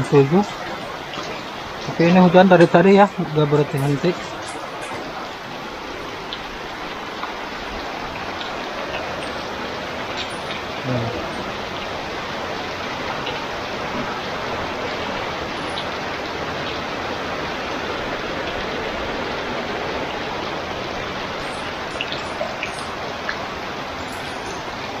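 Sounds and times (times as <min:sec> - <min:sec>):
heavy rain: 0:00.0 - 0:25.0
sharp raindrops ticking: 0:00.0 - 0:25.0.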